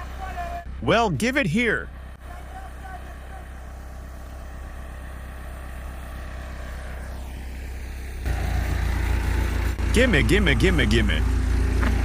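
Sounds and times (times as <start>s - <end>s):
backhoe engine running: 0.0s - 12.0s.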